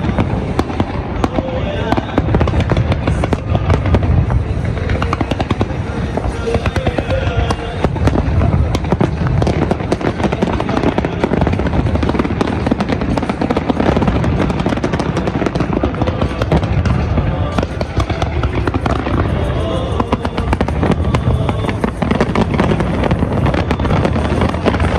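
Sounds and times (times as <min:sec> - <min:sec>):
fireworks cracking and booming: 0:00.0 - 0:24.9.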